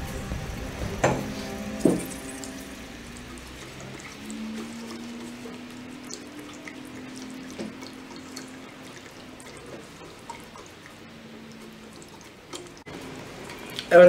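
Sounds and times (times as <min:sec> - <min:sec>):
whisk ticking against pot: 0:01.0 - 0:14.0
whisk stirring sauce: 0:02.5 - 0:14.0.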